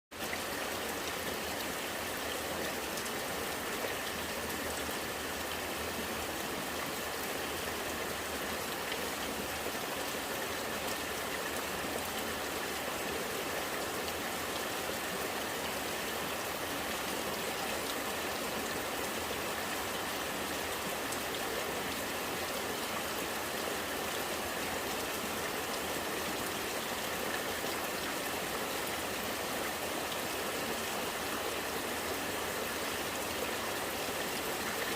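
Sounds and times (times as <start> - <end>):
steady rain: 0.1 - 34.9.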